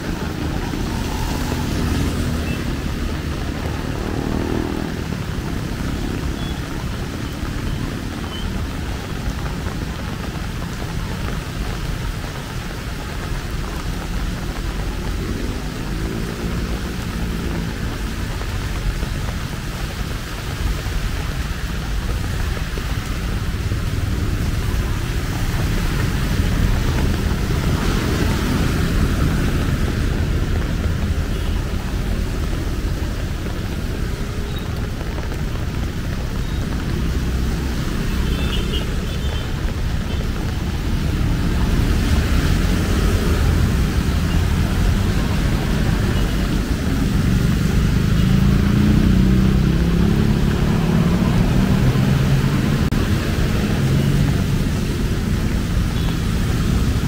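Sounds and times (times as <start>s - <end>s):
cars and motorbikes passing: 0.0s - 57.0s
rain hissing: 0.0s - 57.0s.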